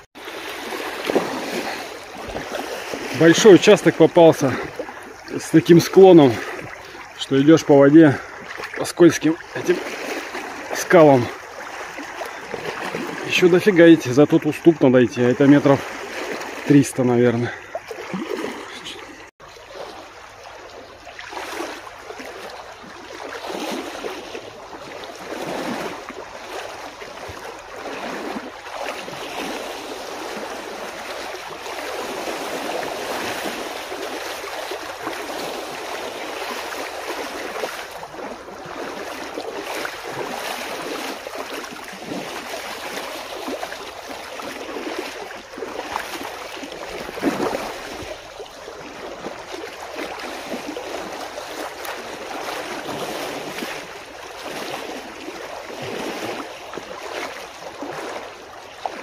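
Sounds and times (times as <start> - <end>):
small waves washing on rocks: 0.0 - 20.4, 21.1 - 59.0
water sloshing around wading feet: 0.0 - 59.0.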